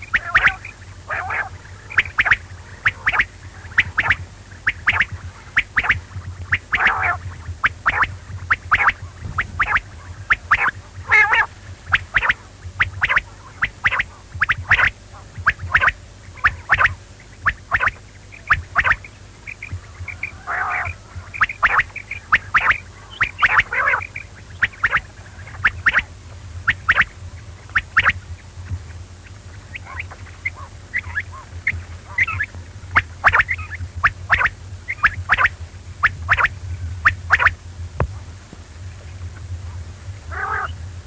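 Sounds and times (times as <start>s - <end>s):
quail calling: 0.0s - 37.6s, 39.0s - 40.9s
faint low hum: 0.0s - 41.0s.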